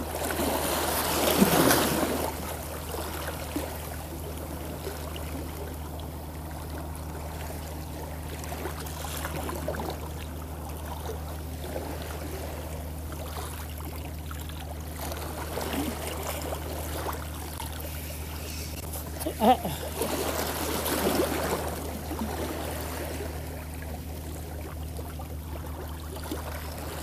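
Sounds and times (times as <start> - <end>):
boat engine droning: 0.0 - 27.0
water splashing against hull: 0.0 - 27.0.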